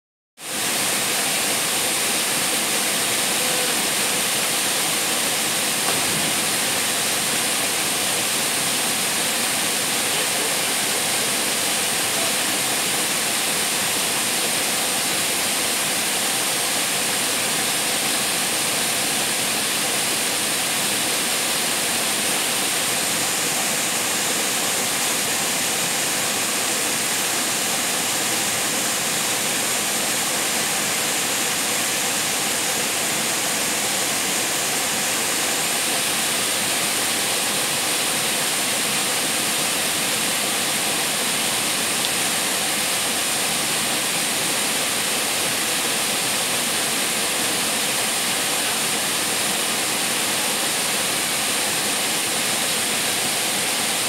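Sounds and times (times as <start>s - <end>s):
waterfall rushing: 0.4s - 54.0s.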